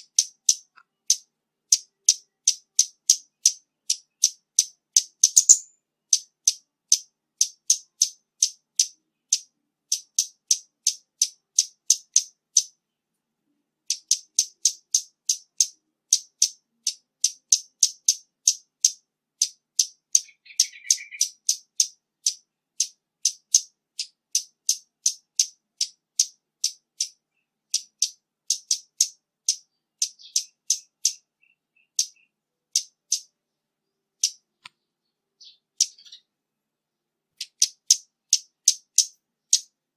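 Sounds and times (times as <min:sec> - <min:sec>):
bird calling with sharp ticks: 0:00.0 - 0:12.8, 0:13.9 - 0:33.3, 0:34.2 - 0:34.8, 0:35.4 - 0:36.3, 0:37.4 - 0:39.7.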